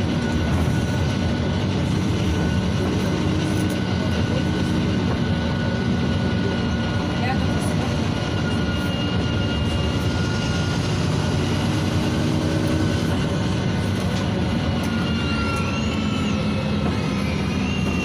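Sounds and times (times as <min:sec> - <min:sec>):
bus engine rumble: 0:00.0 - 0:18.0
thin drivetrain whine: 0:00.0 - 0:18.0.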